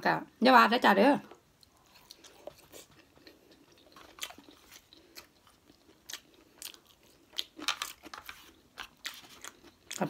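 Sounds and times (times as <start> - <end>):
person chewing with wet smacks: 1.3 - 10.0.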